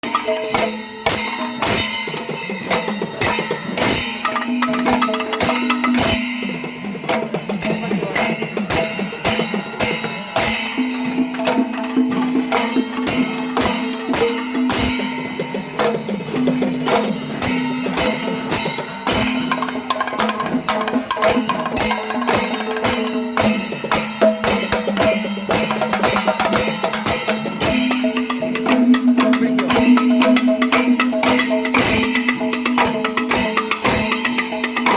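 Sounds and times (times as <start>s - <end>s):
rapid drum strokes: 0.0s - 34.9s.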